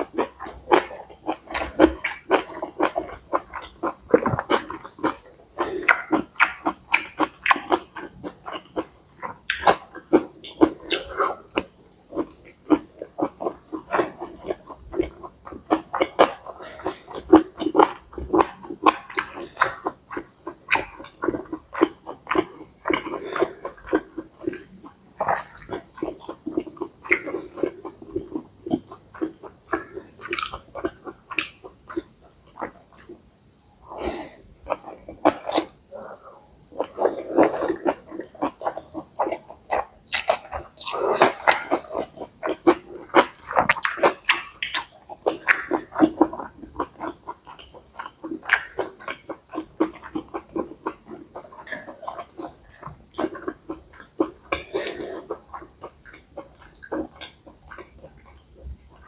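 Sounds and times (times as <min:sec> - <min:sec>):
person chewing and slurping noodles: 0:00.0 - 0:59.0.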